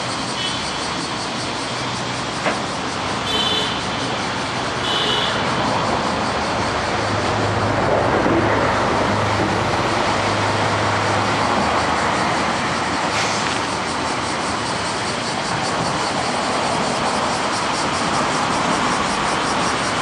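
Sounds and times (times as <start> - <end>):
cicadas buzzing: 0.0 - 20.0
passing vehicle: 0.0 - 20.0
road traffic: 0.0 - 20.0.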